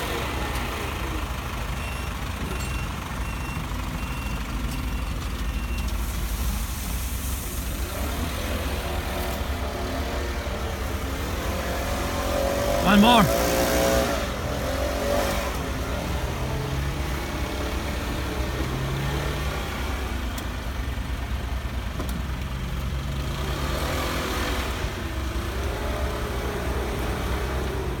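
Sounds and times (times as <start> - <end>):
dump truck engine rumbling: 0.0 - 23.7.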